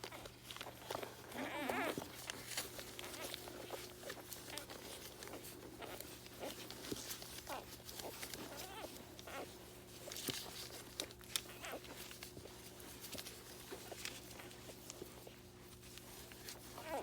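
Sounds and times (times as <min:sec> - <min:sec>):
puppy squeaks and grunts: 0:00.0 - 0:15.4, 0:16.0 - 0:17.0
puppies suckling: 0:00.0 - 0:17.0.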